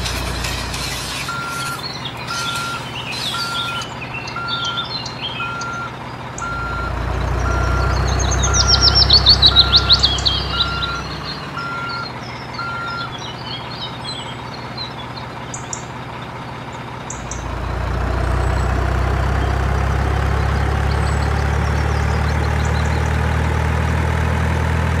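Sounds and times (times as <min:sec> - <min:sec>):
truck reversing alarm beeps: 0:00.0 - 0:23.8
birds chirping: 0:00.0 - 0:24.6
truck engine hum: 0:00.0 - 0:25.0.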